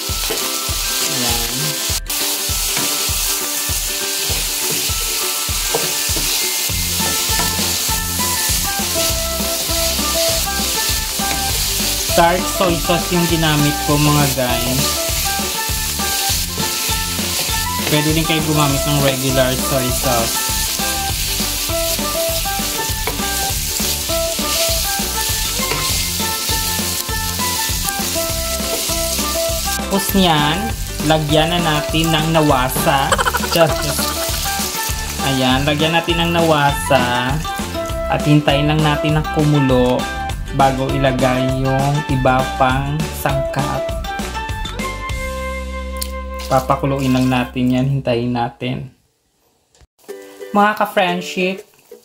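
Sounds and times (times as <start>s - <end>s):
pork sizzling in hot oil: 0.0s - 40.6s, 49.3s - 52.0s
background music with a beat: 0.0s - 46.4s.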